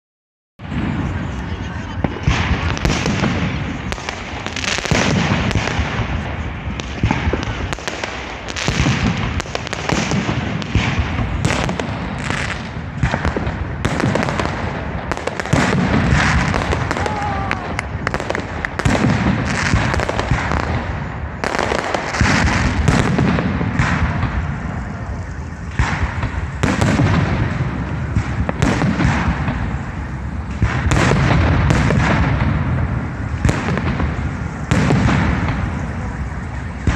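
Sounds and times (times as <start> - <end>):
deep fireworks booms: 0.6 - 36.9
fireworks bangs and crackle: 0.6 - 36.9.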